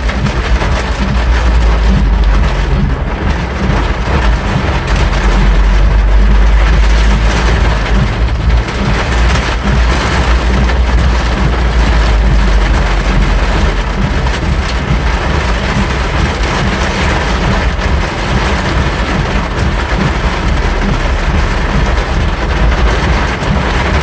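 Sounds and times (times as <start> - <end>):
heavy rain drumming on car roof: 0.0 - 24.0
low rumble: 0.0 - 24.0.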